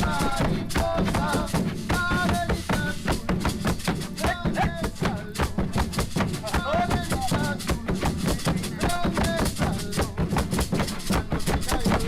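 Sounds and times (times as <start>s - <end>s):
music with drum beat: 0.0s - 12.0s.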